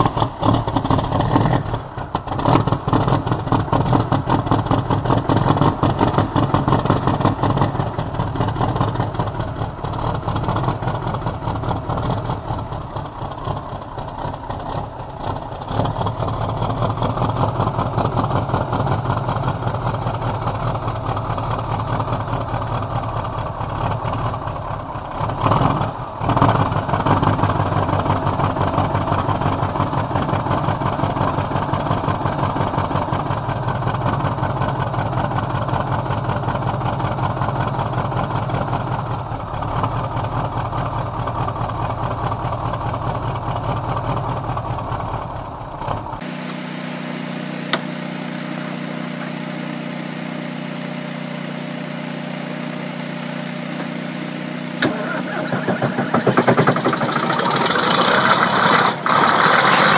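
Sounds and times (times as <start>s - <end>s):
diesel truck engine idling: 0.0s - 59.3s.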